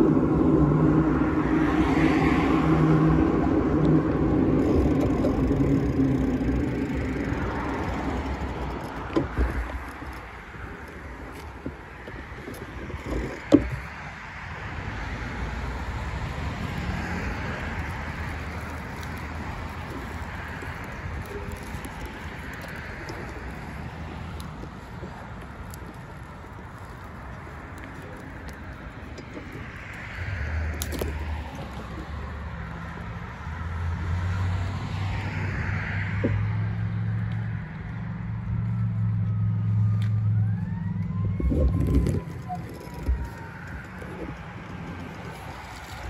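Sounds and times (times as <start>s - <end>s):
cars driving past: 0.0s - 46.0s
road traffic rushing: 0.0s - 46.0s.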